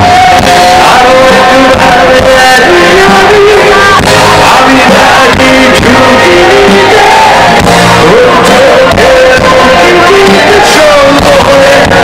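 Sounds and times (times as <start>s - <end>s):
live rock band: 0.0s - 12.0s
man singing: 0.0s - 12.0s.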